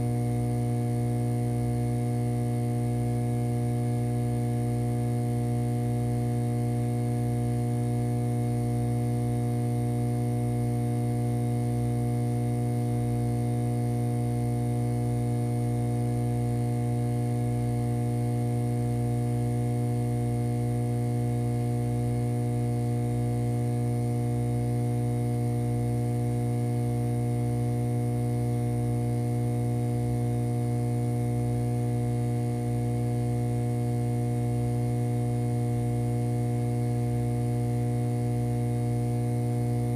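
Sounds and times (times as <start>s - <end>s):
electronic hum: 0.0s - 39.9s.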